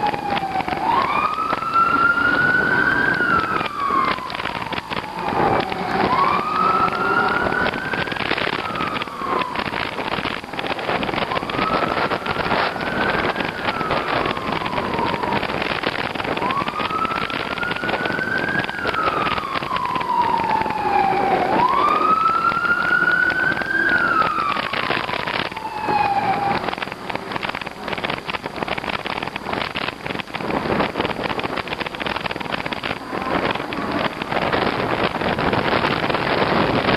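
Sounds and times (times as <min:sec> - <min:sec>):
emergency siren wailing: 0:00.0 - 0:36.9
wind and road noise: 0:00.0 - 0:36.9.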